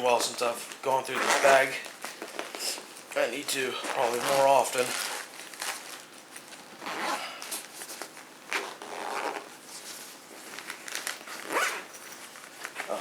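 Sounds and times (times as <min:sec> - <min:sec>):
plastic and fabric rustling: 0:00.0 - 0:13.0.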